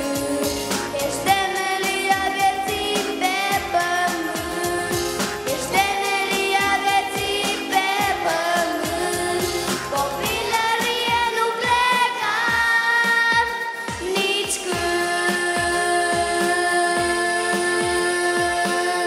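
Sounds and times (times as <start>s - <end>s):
backing track with steady beat: 0.0s - 19.0s
boy singing into microphone: 0.0s - 19.0s.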